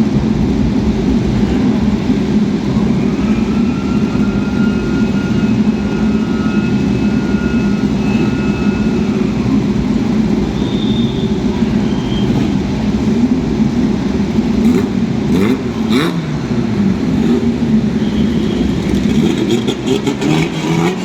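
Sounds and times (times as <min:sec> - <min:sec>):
higher engine note: 0:00.0 - 0:21.0
racing car engines running: 0:00.0 - 0:21.0.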